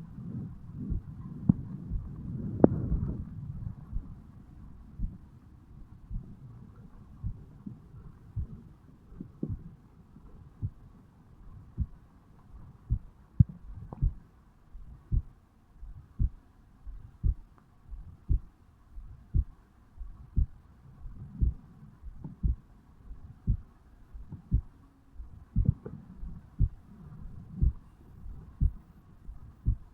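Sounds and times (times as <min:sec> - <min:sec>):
heartbeat thumps: 0:00.0 - 0:06.4, 0:07.0 - 0:08.6, 0:09.2 - 0:09.8, 0:10.5 - 0:10.9, 0:11.5 - 0:14.2, 0:14.8 - 0:29.9.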